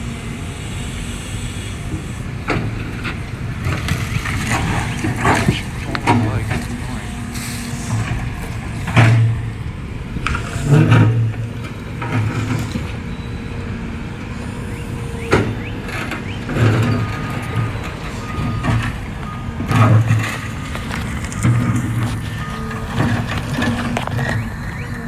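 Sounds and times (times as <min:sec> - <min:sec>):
excavator diesel engine working: 0:00.0 - 0:25.0.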